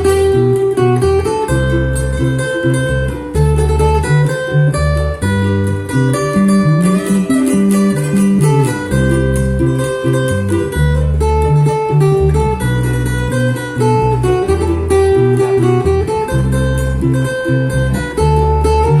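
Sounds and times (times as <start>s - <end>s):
bass line: 0.0s - 19.0s
plucked acoustic guitar: 0.0s - 19.0s
steady beat: 0.0s - 19.0s.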